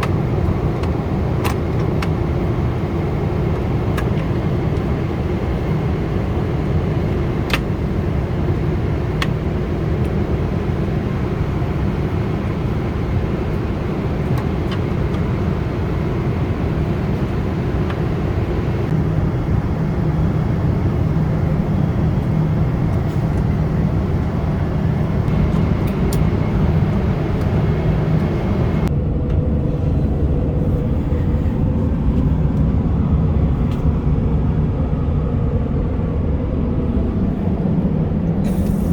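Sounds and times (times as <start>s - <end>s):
airliner cabin rushing noise: 0.0s - 34.6s, 36.8s - 38.9s.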